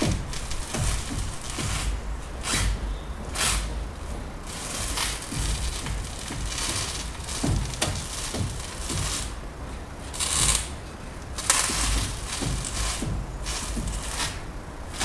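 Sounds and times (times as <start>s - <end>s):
tyre scrubbing against floor: 0.0s - 9.5s, 11.4s - 15.0s.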